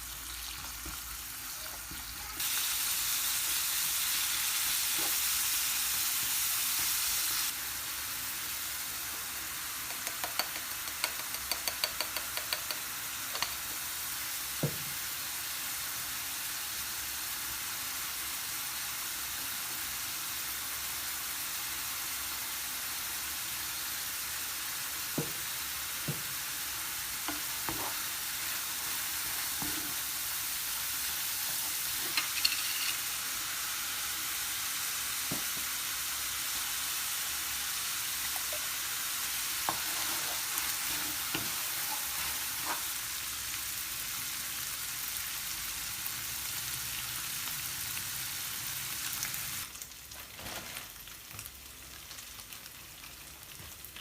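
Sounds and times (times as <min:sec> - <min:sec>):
sizzling hiss: 0:00.0 - 0:51.9.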